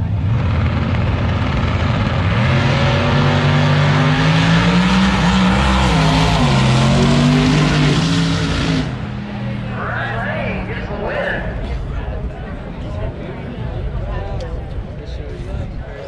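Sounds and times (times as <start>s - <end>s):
drag racing engines at full throttle: 0.0s - 16.0s.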